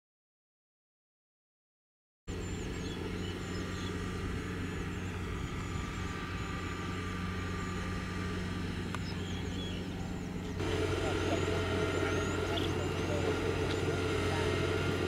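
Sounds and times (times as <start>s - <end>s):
distant combine harvester engine: 2.3s - 15.0s
small birds chirping: 2.3s - 15.0s.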